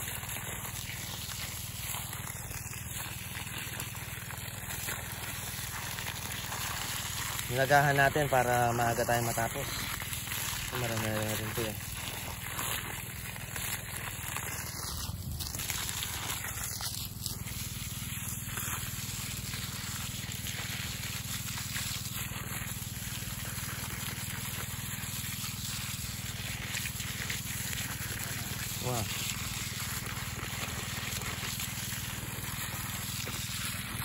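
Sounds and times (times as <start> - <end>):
hose water splashing on soil: 0.0 - 34.0.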